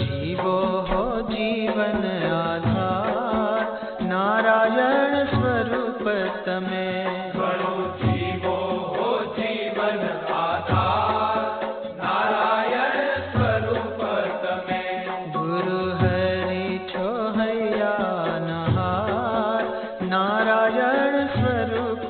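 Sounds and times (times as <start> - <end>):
devotional music with steady beat: 0.0 - 22.0.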